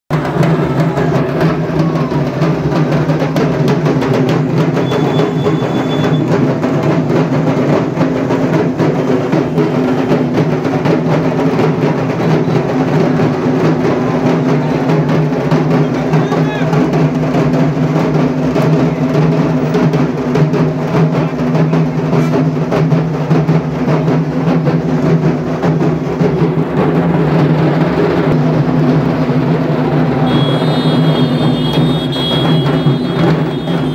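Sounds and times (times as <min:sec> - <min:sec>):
barrel drums beaten with sticks: 0:00.1 - 0:33.9.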